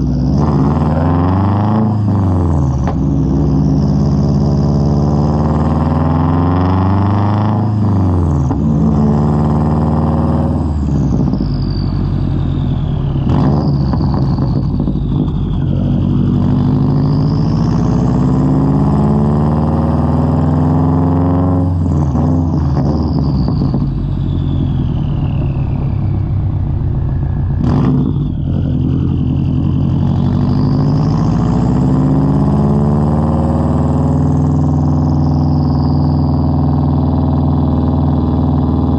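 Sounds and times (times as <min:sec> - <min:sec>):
turbocharged engine accelerating: 0:00.0 - 0:38.9.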